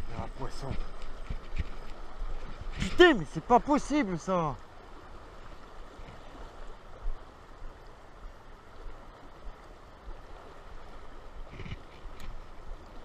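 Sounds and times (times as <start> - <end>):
river water running over riffles: 0.0 - 13.0.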